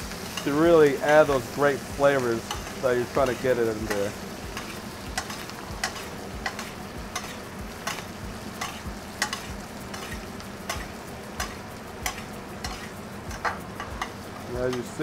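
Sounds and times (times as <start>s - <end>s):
chicken sizzling in butter: 0.0s - 15.0s
metal spoon clinking on skillet: 0.2s - 1.6s, 2.4s - 15.0s.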